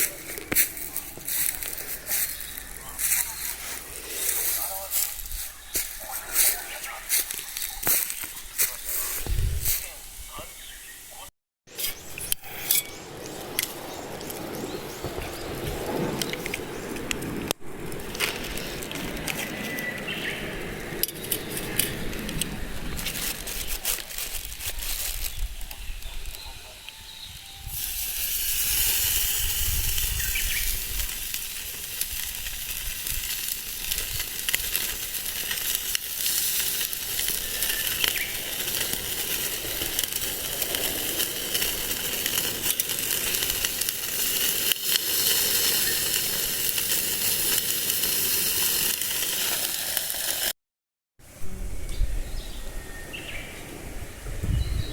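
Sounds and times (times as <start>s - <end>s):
wood fire crackling: 0.0s - 10.2s, 11.8s - 26.5s, 27.8s - 50.6s.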